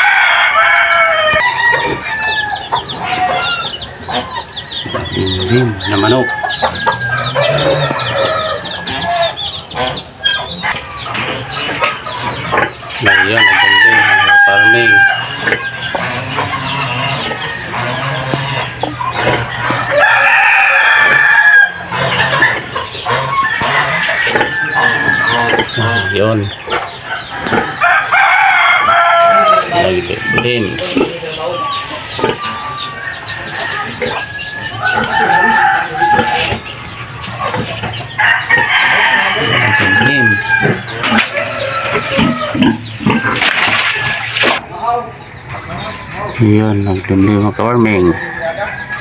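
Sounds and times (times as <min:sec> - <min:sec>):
rooster crowing: 0:00.0 - 0:03.8, 0:04.7 - 0:09.6, 0:13.0 - 0:36.8, 0:38.0 - 0:44.6, 0:47.8 - 0:49.0
chickens clucking: 0:00.0 - 0:49.0.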